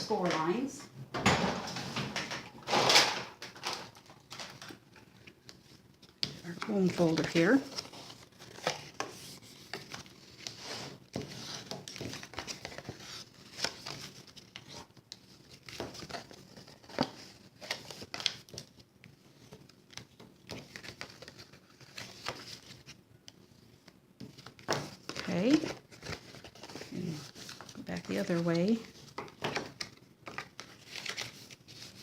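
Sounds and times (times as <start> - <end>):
card folding and creasing: 2.3 - 32.0.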